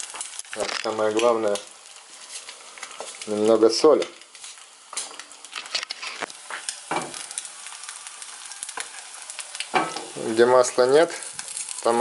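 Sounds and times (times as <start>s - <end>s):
egg sizzling in a frying pan: 0.0s - 12.0s.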